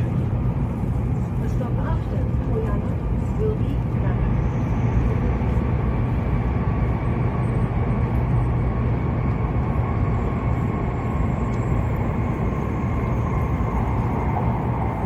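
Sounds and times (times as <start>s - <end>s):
train cabin low rumble: 0.0s - 15.0s.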